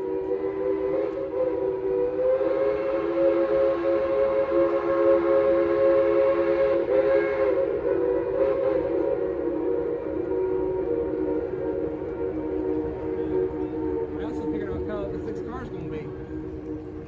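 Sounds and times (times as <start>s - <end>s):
steam locomotive chime whistle: 0.0s - 17.0s.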